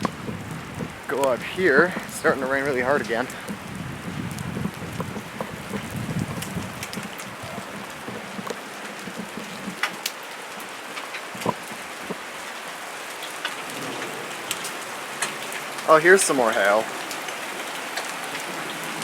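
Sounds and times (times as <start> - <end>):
heavy rain: 0.0 - 19.0
raindrops ticking close by: 0.0 - 19.0.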